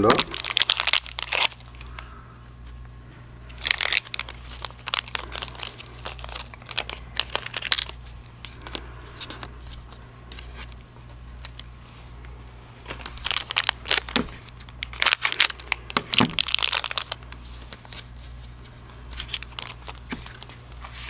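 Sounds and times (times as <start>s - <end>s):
foil bag crinkling: 0.0s - 2.2s, 3.4s - 11.7s, 12.8s - 21.0s.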